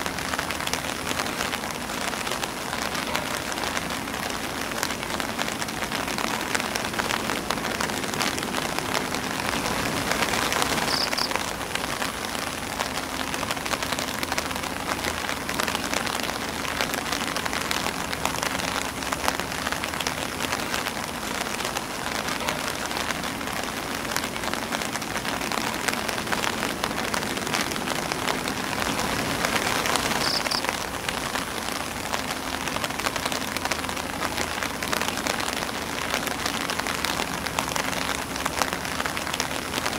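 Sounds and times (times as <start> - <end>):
rain on umbrella and grass: 0.0 - 39.9.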